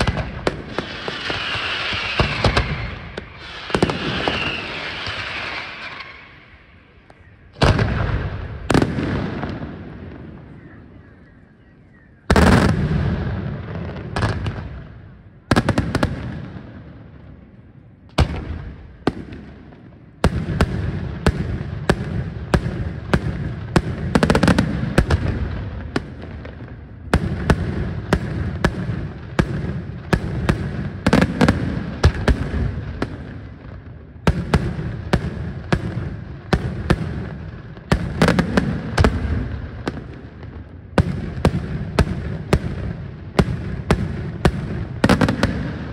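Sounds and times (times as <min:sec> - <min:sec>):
fireworks bursting with sharp bangs: 0:00.0 - 0:45.9
rolling echoes: 0:00.0 - 0:45.9.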